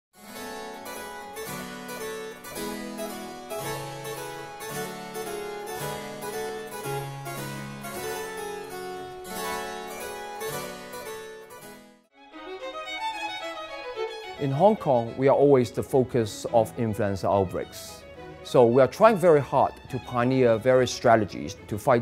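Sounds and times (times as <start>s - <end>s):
instrumental music: 0.1s - 22.0s.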